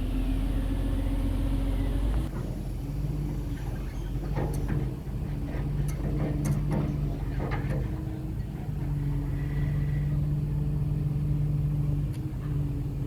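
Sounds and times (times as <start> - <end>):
heavy machinery engine humming: 0.0 - 13.0.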